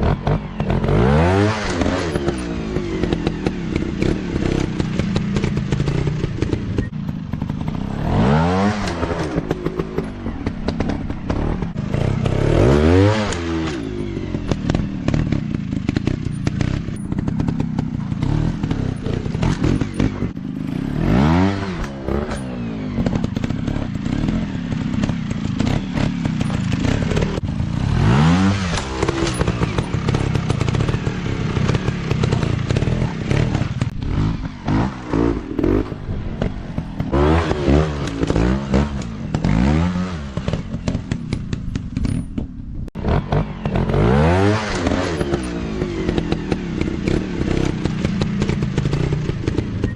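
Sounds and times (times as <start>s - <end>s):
dirt bike engines revving: 0.0s - 49.9s
knocks and scrapes over rough ground: 0.0s - 49.9s.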